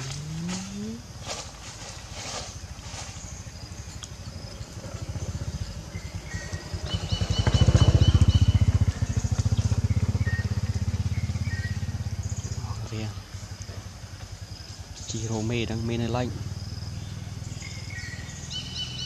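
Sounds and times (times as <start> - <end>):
small engine puttering: 3.3 - 19.0.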